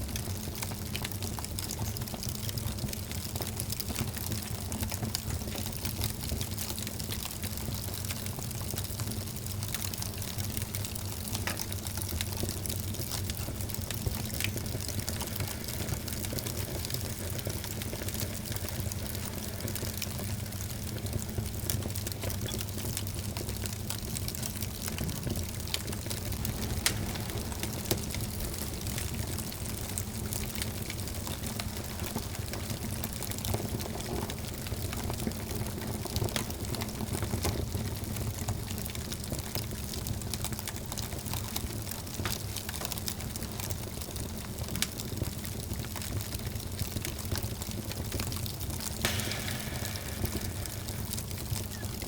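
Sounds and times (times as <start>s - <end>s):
fire rumbling and hissing: 0.0s - 52.0s
wood fire crackling and popping: 0.0s - 52.0s.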